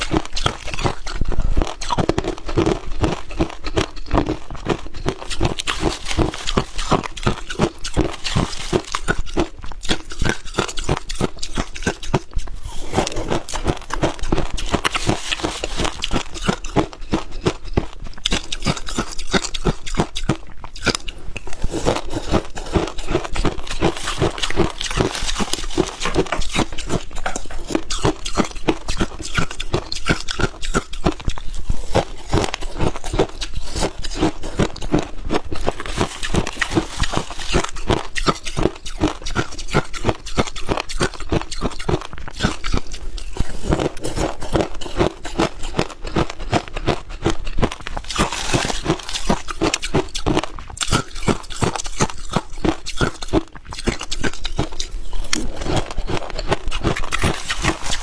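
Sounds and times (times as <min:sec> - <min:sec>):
ice being chewed crunching: 0:00.0 - 0:58.0.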